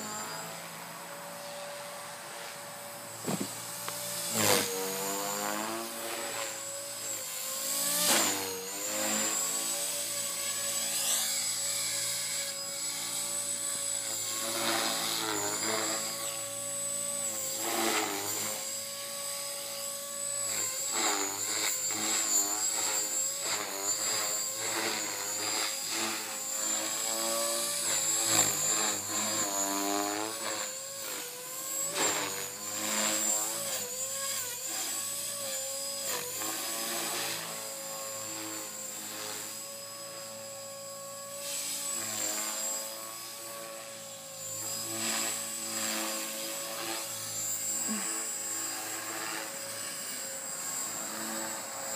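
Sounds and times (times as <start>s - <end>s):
electric motor high whine: 0.0s - 51.9s.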